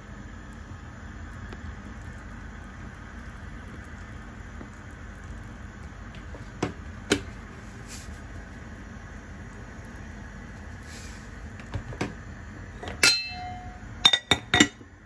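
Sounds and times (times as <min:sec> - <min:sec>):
soup simmering: 0:00.0 - 0:15.0.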